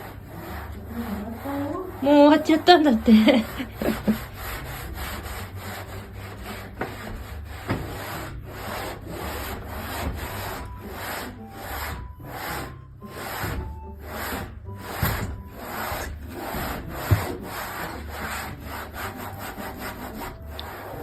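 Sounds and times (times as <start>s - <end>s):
brush rubbing back and forth: 0.0s - 21.0s.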